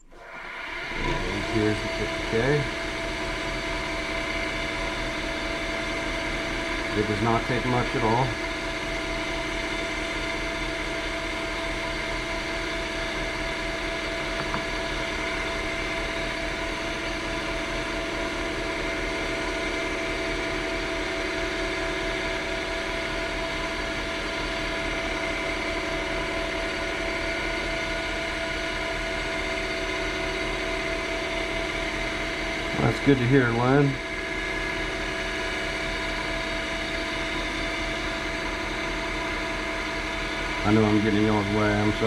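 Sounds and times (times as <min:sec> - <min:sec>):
wood lathe motor humming: 0:00.0 - 0:42.0.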